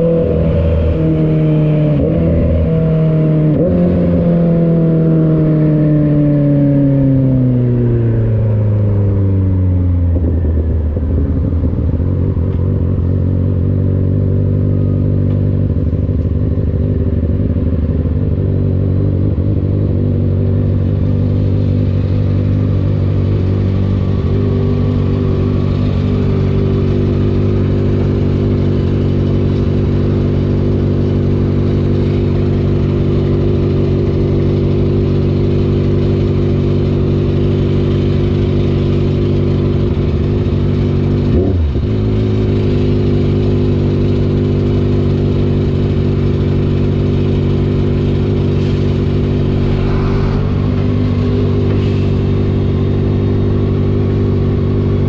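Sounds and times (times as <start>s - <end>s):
motorcycle engine running and idling: 0.0s - 55.0s.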